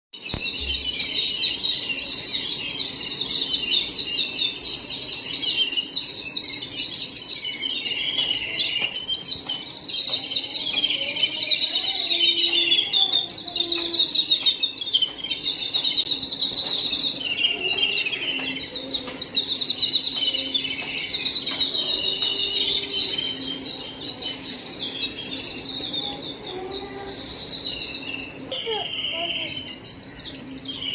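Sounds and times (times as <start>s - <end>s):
flock of birds chirping: 0.2s - 30.9s.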